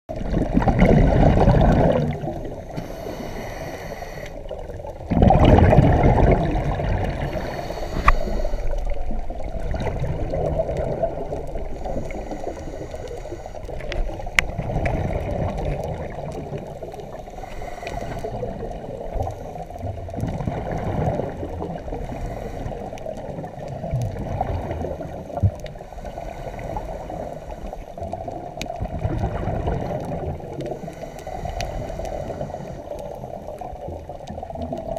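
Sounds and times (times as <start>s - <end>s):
regulator bubbles gurgling: 0.1s - 34.9s
underwater hiss: 1.2s - 4.8s, 5.6s - 9.5s, 10.5s - 20.0s, 20.6s - 33.7s.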